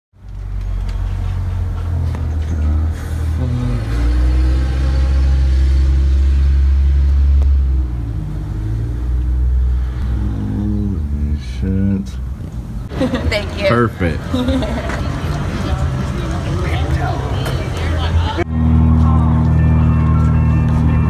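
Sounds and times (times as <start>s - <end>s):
vehicle engine rumbling: 0.2s - 21.0s.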